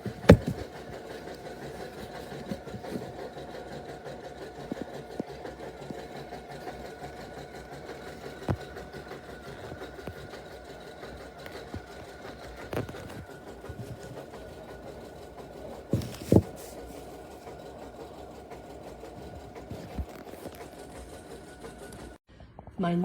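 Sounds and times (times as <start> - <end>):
small machine humming: 0.0 - 22.2.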